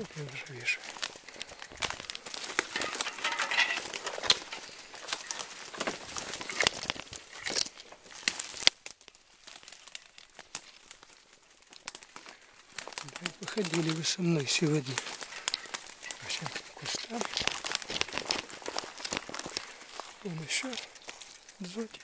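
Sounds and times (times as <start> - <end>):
undergrowth rustling and snapping: 0.0 - 22.0.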